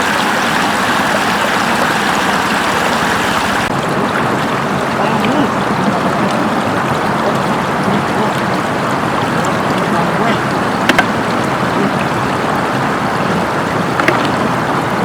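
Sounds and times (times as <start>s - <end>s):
floodwater rushing over road: 0.0s - 15.0s.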